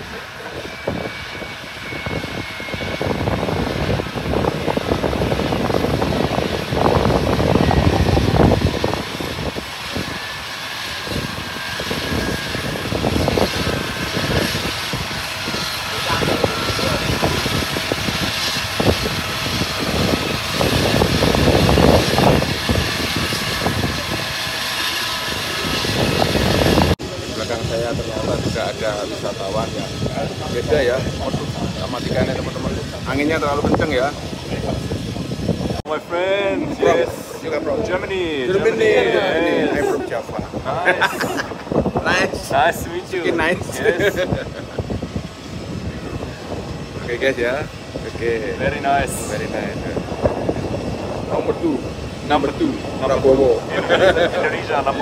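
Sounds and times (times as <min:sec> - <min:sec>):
jet engines running: 0:00.0 - 0:55.0
wind buffeting microphone: 0:00.0 - 0:55.0.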